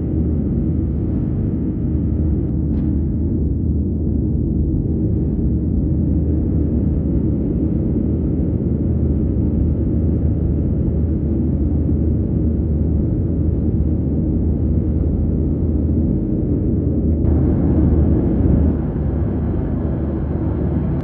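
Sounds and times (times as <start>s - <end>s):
airplane engine rumble in cabin: 0.0s - 21.0s.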